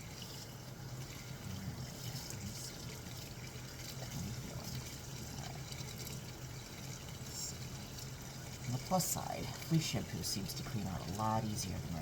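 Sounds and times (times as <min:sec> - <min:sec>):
tap water running in a sink: 0:00.0 - 0:12.0.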